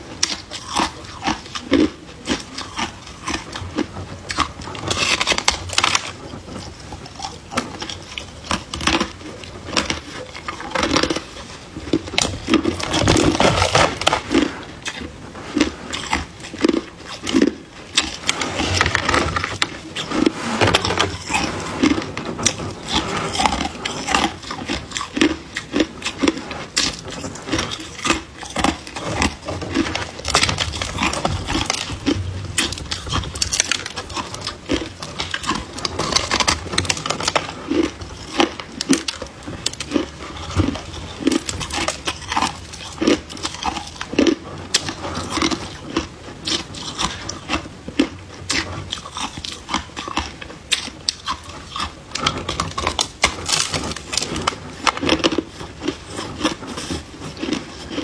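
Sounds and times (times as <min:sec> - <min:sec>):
crushed ice being chewed: 0:00.0 - 0:58.0.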